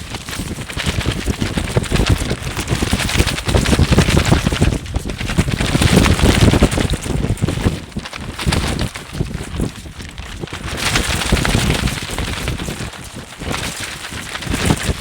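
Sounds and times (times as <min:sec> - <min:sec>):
fabric flapping in wind: 0:00.0 - 0:15.0
wind rumble on microphone: 0:00.0 - 0:15.0.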